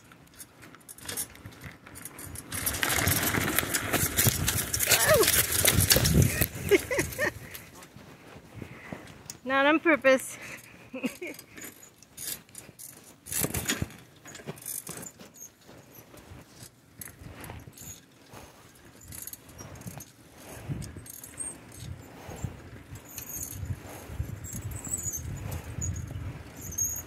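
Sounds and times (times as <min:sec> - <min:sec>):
bicycle rattling and clinking: 0:00.0 - 0:08.1, 0:10.2 - 0:27.0.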